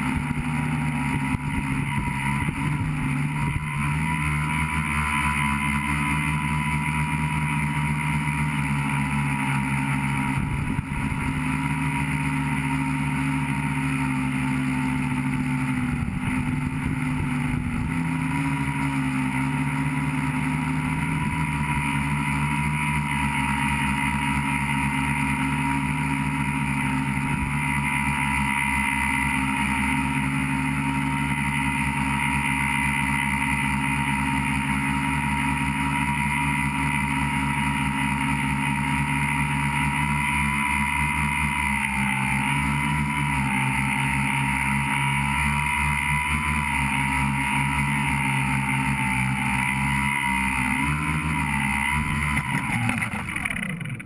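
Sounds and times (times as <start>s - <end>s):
drone motors and propellers humming: 0.0s - 54.0s.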